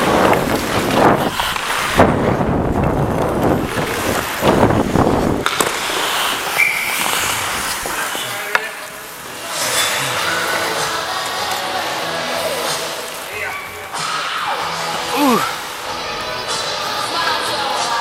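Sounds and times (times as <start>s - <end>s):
quiet rink noise: 0.0s - 18.0s
skate blades scraping ice: 0.0s - 18.0s.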